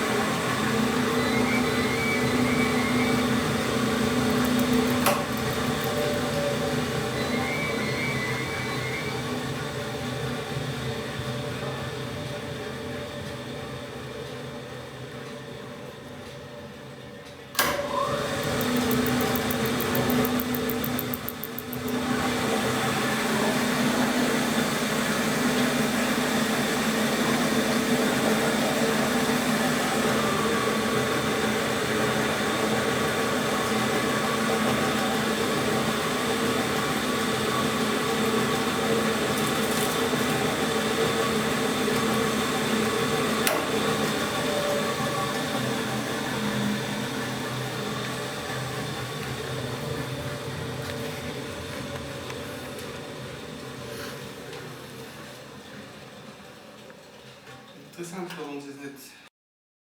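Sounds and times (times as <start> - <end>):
washing machine motor humming: 0.0 - 15.2, 17.6 - 57.9.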